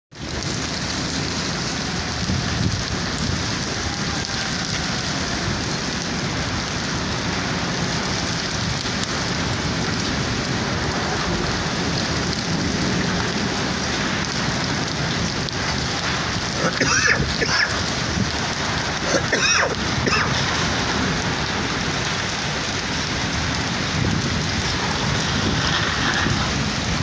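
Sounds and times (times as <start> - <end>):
heavy rain splashing on ground: 0.1 - 27.0.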